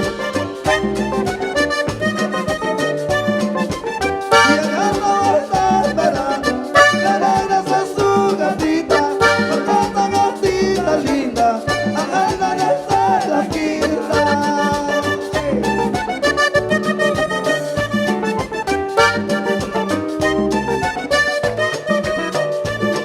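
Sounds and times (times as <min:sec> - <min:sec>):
accordion melody: 0:00.0 - 0:23.0
percussion beat: 0:00.0 - 0:23.0.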